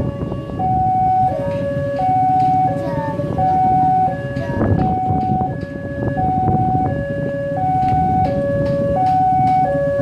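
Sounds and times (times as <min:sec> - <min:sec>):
two-tone level crossing alarm: 0:00.0 - 0:10.0.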